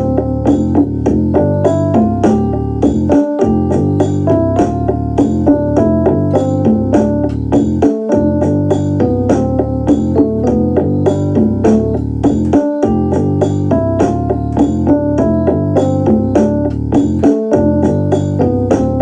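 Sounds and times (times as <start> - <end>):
piano-like keyboard melody: 0.0 - 19.0
steady beat: 0.0 - 19.0
sustained bass line: 0.0 - 19.0.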